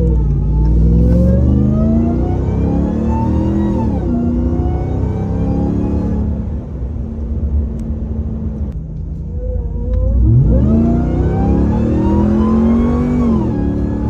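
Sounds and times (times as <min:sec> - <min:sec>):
supercharger whine: 0:00.0 - 0:14.0
truck engine accelerating: 0:00.0 - 0:14.0.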